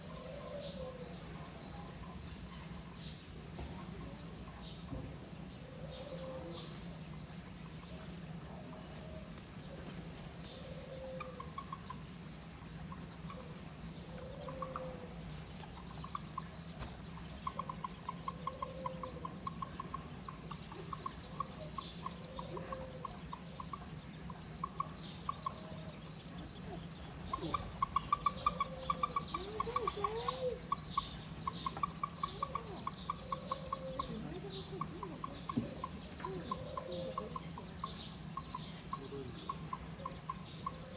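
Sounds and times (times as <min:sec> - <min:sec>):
steady low hum: 0:00.0 - 0:40.9
low arched bird calls: 0:05.4 - 0:40.9.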